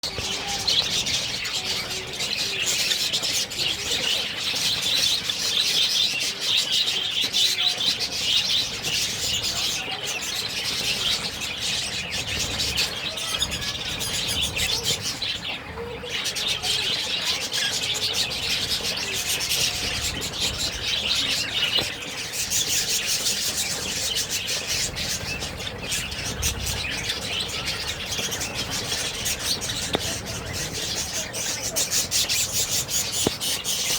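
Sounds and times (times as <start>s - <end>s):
budgerigars chirping: 0.1s - 33.9s.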